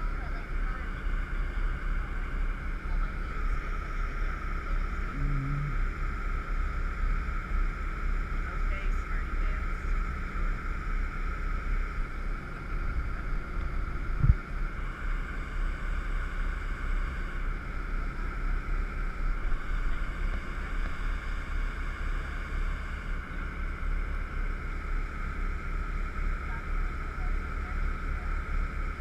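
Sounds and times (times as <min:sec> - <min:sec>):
jet boat rumble and hiss: 0:00.0 - 0:29.0.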